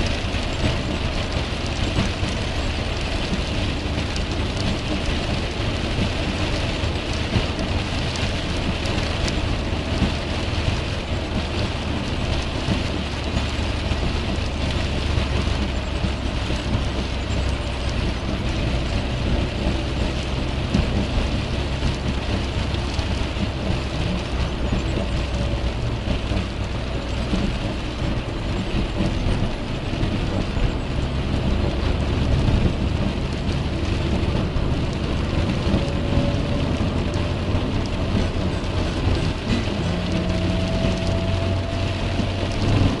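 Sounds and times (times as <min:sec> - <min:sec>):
rain on car windscreen: 0:00.0 - 0:43.0
road and tyre noise: 0:00.0 - 0:43.0.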